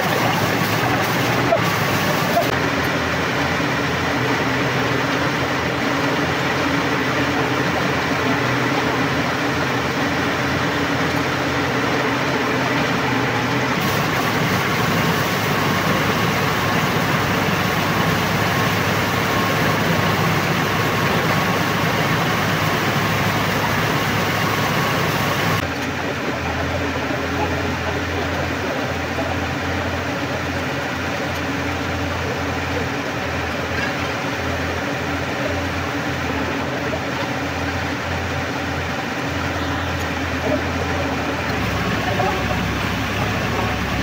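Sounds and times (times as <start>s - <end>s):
drilling rig engine running: 0.0s - 44.0s.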